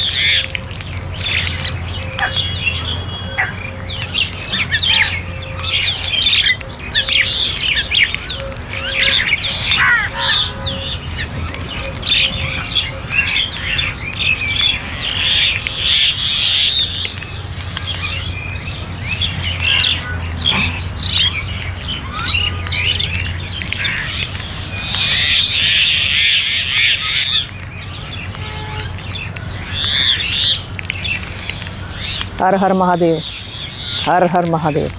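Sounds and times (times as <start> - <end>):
crows cawing: 0.0 - 17.1, 17.8 - 32.4.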